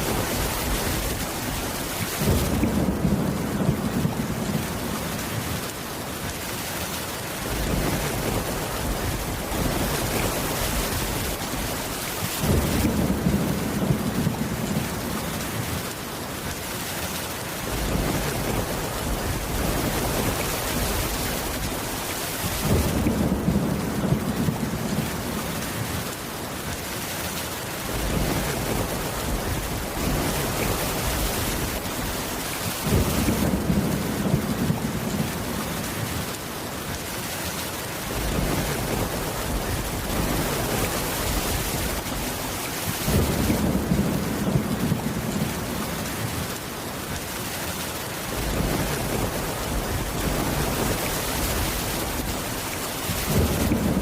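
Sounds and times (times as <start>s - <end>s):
thunder rumbling: 0.0s - 5.8s, 7.4s - 16.0s, 17.6s - 26.1s, 27.8s - 36.5s, 38.0s - 46.6s, 48.3s - 54.0s
heavy rain: 0.0s - 54.0s.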